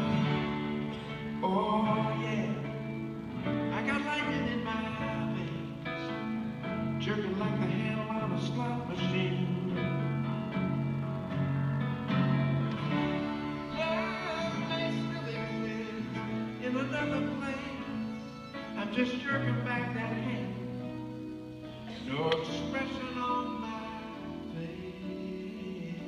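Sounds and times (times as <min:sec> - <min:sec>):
harmonica melody: 0:00.0 - 0:07.3, 0:09.2 - 0:26.0
strummed acoustic guitar: 0:00.0 - 0:26.0.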